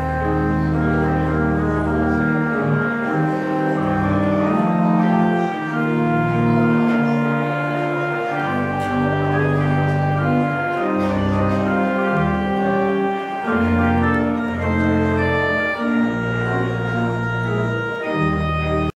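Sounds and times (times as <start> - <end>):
church organ playing chords: 0.0 - 18.9.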